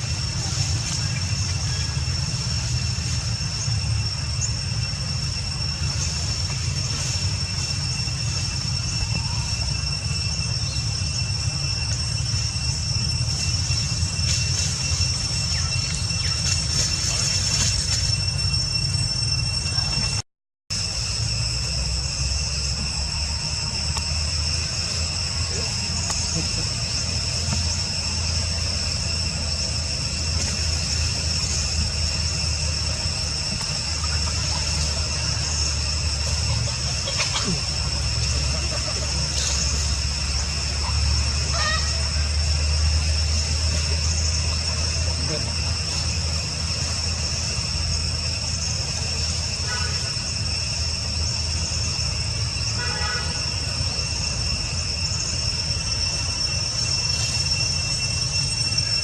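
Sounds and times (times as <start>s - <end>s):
insect chorus trilling: 0.0s - 59.0s
low steady rumble: 0.0s - 59.0s.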